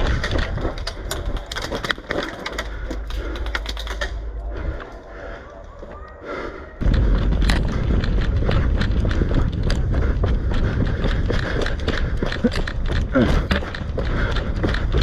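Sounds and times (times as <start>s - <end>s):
rough low rumble: 0.0s - 15.0s
running footsteps: 0.0s - 15.0s.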